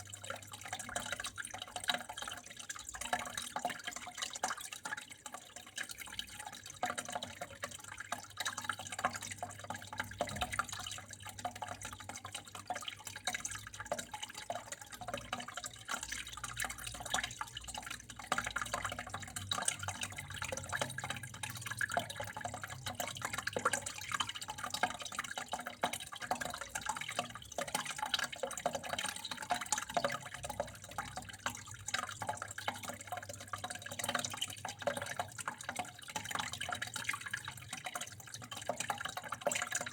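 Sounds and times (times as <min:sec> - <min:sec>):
water drips and splashes: 0:00.0 - 0:39.9
water flowing and trickling: 0:00.0 - 0:39.9.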